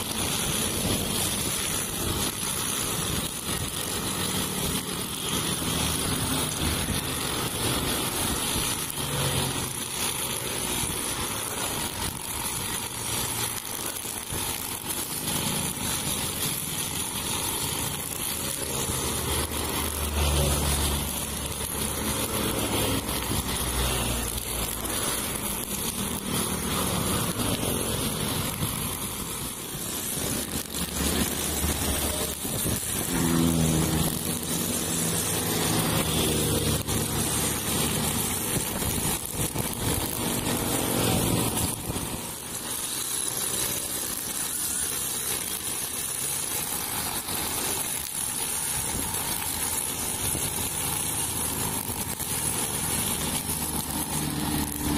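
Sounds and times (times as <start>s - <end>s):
brush cutter engine running: 0.0s - 54.9s
cars passing: 0.0s - 54.9s
motorcycles passing: 0.0s - 54.9s.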